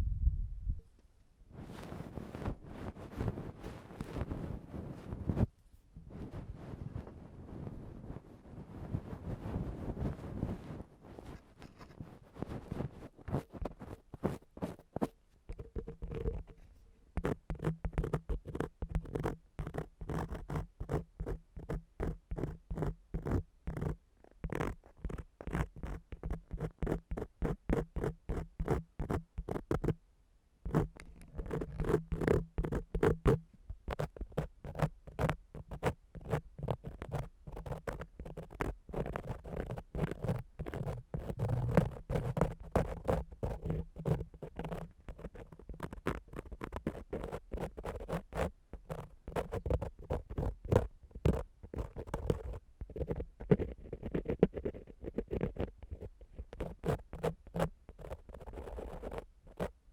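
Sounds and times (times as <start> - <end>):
scratching on a microphone: 1.5 - 30.0, 30.7 - 59.8.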